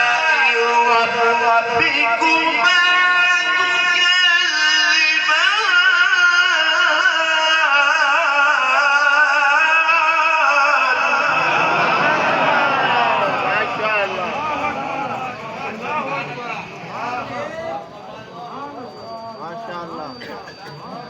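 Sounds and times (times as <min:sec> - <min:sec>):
man reciting melodically: 0:00.0 - 0:17.5.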